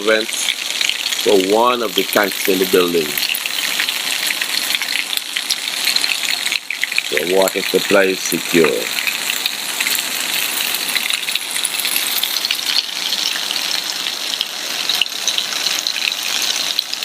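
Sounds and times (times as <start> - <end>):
heavy rain hissing: 0.0 - 5.9, 7.0 - 15.8.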